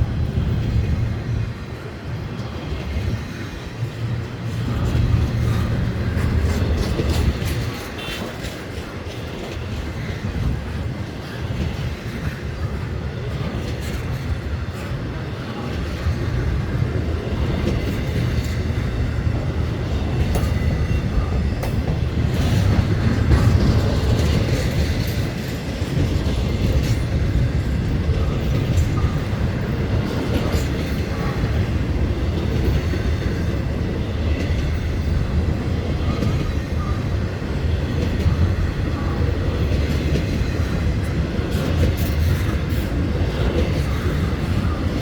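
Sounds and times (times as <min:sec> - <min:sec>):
train wheels rumbling on rails: 0:00.0 - 0:45.0
wheels clicking over rail joints: 0:02.2 - 0:45.0.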